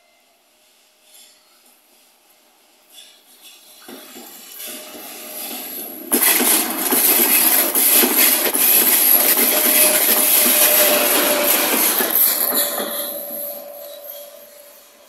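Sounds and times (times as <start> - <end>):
locomotive wheels clattering on rails: 2.9 - 15.0.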